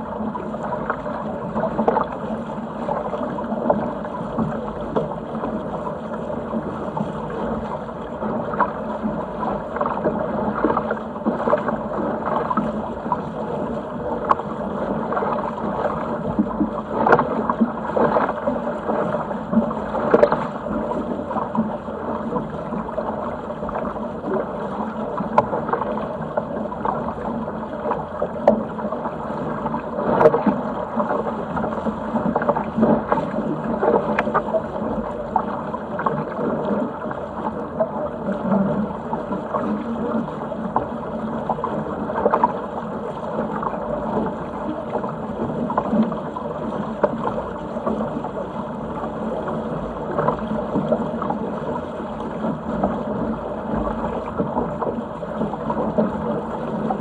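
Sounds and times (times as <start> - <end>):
water rushing along a hull: 0.0 - 57.0.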